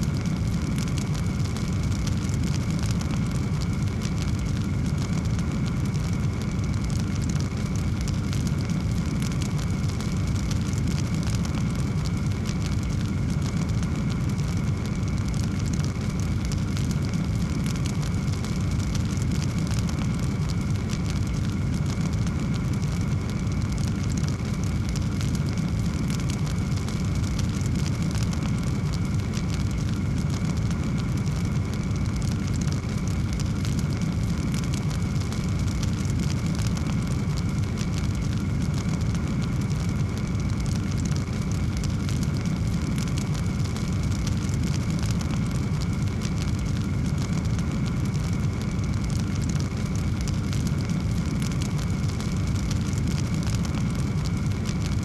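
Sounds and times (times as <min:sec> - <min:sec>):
fire crackling and popping: 0:00.0 - 0:55.0
low rumble of flame: 0:00.0 - 0:55.0.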